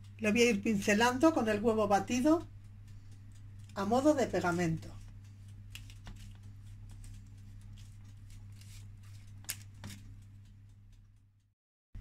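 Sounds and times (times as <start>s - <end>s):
pastry brush dabbing: 0.0s - 10.5s
steady low hum: 0.0s - 12.0s.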